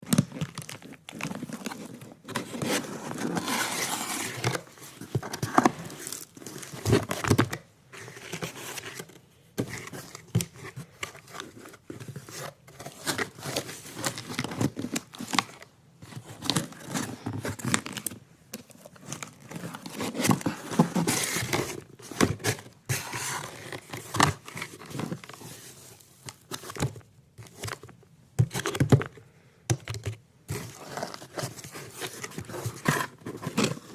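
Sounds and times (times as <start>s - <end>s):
plastic and paper crinkling: 0.0s - 29.2s, 30.0s - 33.9s.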